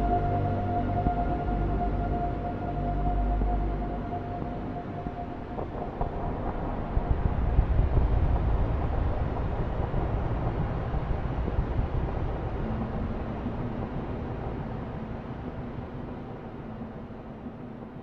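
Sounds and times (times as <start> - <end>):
noisy low electronic rumble: 0.0 - 18.0
steady low tone: 0.0 - 18.0.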